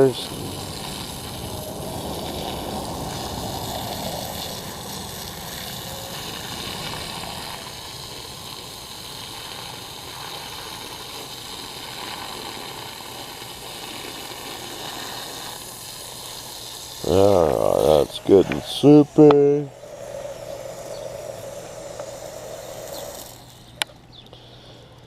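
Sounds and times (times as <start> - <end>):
hose spraying water on dirt: 0.0 - 24.0.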